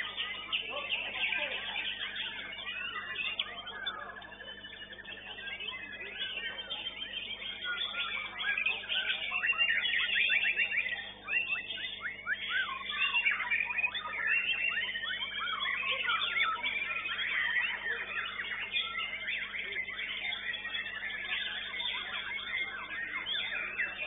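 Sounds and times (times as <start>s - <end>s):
caged songbirds singing: 0.0s - 24.0s.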